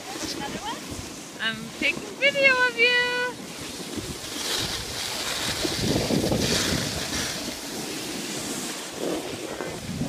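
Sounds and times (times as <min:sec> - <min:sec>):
skis sliding over snow: 0:00.0 - 0:10.0
wind buffeting microphone: 0:00.0 - 0:10.0.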